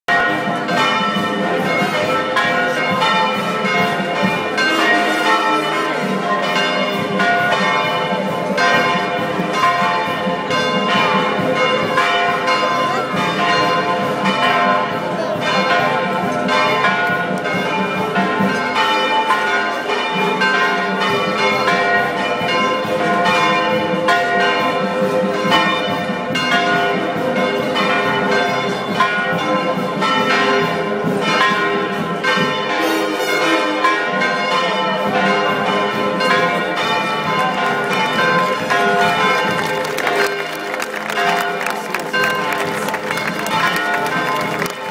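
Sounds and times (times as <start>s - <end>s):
church bells pealing: 0.1s - 44.9s.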